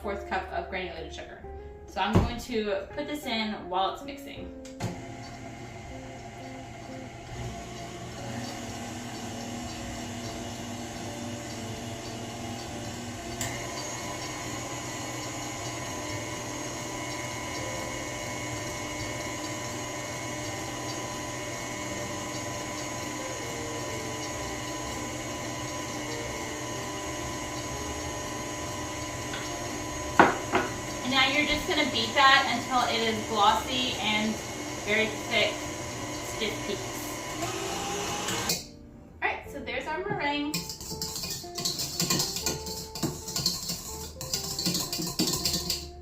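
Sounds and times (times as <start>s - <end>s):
stand mixer motor whining: 4.8s - 38.7s, 40.8s - 45.8s
whisk beating egg whites: 5.1s - 38.5s, 40.6s - 46.0s.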